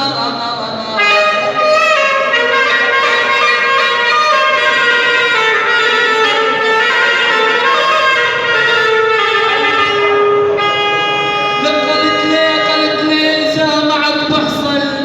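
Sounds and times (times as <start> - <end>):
bowed single-string fiddle melody: 0.8 - 13.9.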